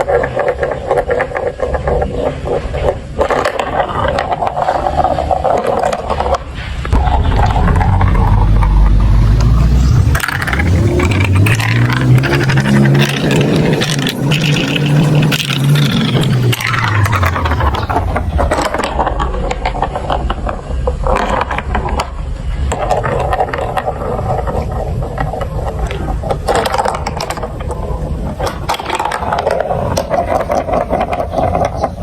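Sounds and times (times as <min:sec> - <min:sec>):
marbles clicking on track: 0:00.0 - 0:07.0, 0:07.6 - 0:32.0
marbles rolling in plastic track: 0:00.0 - 0:32.0.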